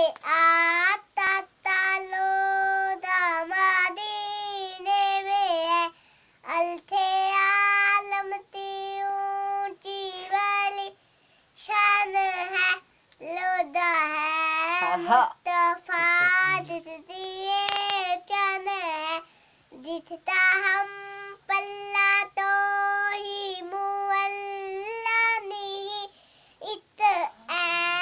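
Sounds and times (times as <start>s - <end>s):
girl singing unaccompanied: 0.0s - 28.0s.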